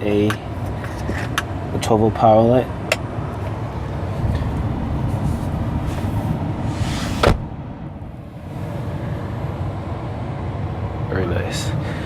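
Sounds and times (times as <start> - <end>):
low rumble inside pickup cab: 0.0 - 12.0.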